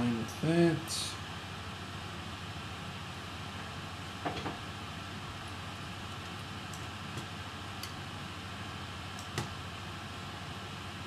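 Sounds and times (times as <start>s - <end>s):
steady room hiss: 0.0s - 11.0s.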